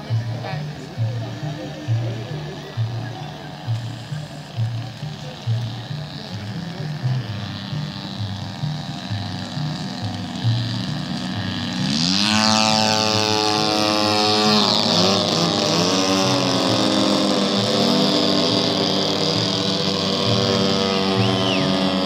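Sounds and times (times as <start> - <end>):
model airplane engine buzzing: 0.0 - 22.0.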